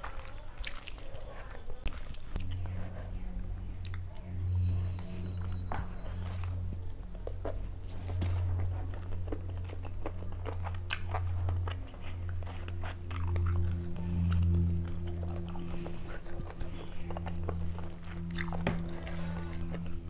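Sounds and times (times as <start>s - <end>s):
chewing and lip-smacking: 0.0s - 20.0s
low hum: 0.0s - 20.0s.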